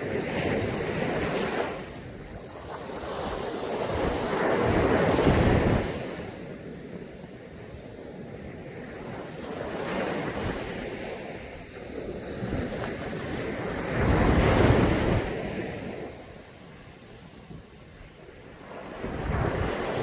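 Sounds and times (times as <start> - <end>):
sea waves breaking on a beach: 0.0 - 20.0.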